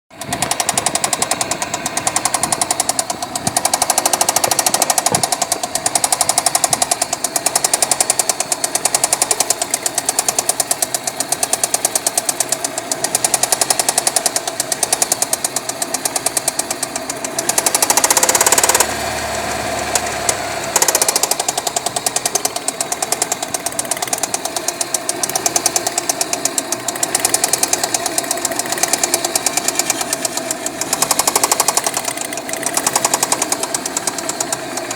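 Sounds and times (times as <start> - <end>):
car engine knocking: 0.1 - 34.9.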